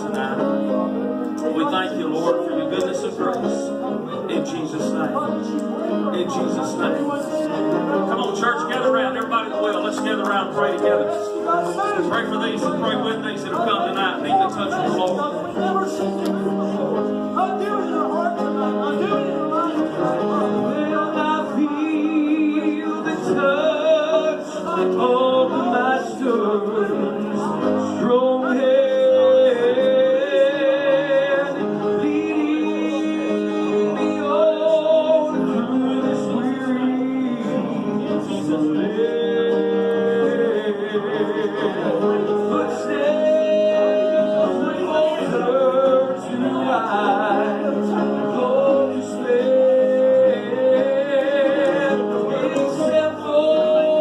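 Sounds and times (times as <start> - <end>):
worship music accompaniment: 0.0 - 54.0.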